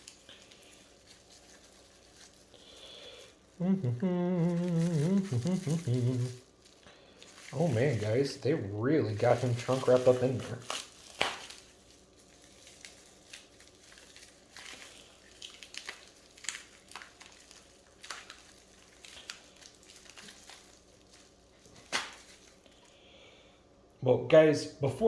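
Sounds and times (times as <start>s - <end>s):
plastic wrap crinkling: 0.0s - 23.2s.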